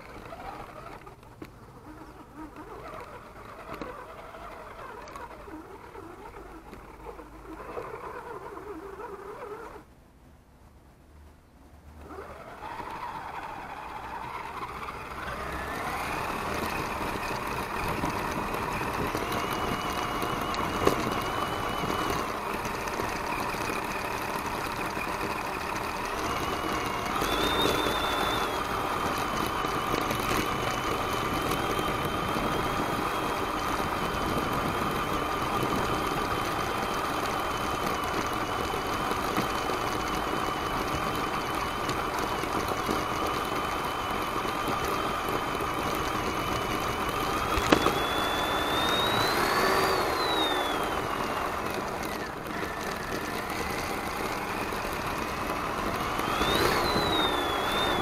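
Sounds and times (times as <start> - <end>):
electric motor and gears whining: 0.0 - 9.9, 12.0 - 58.0.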